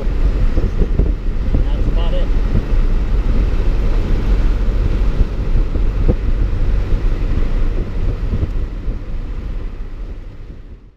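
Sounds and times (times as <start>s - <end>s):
diesel engine running: 0.0s - 10.9s
wind buffeting: 0.0s - 10.9s.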